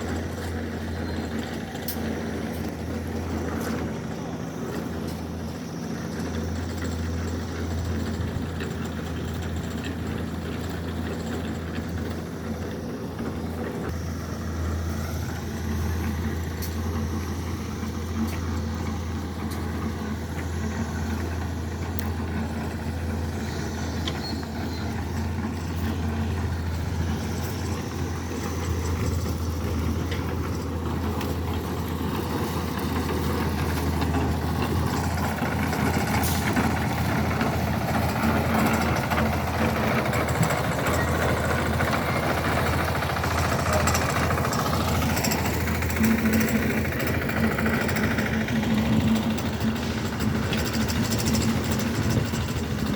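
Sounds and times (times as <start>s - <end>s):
heavy machine engine running: 0.0s - 52.9s.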